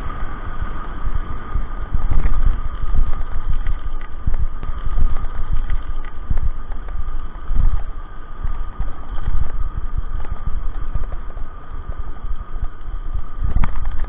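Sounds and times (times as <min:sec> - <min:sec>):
bicycle riding rumble: 0:00.0 - 0:14.0.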